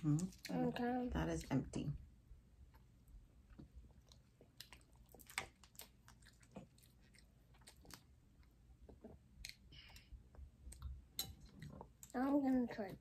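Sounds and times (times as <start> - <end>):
soft chewing: 0.0 - 1.5, 2.4 - 13.0.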